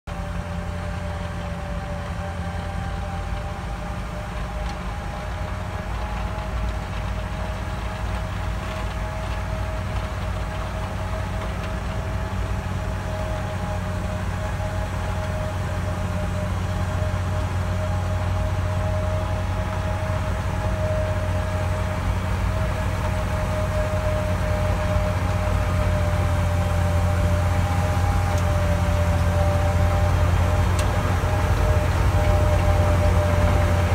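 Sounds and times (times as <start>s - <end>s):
snowblower engine droning: 0.0s - 33.9s
high whine: 0.1s - 33.9s.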